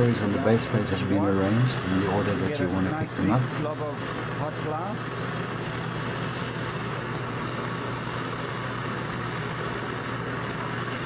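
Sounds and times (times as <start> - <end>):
burner flame rushing: 0.0 - 11.0
constant low hum: 0.0 - 11.0.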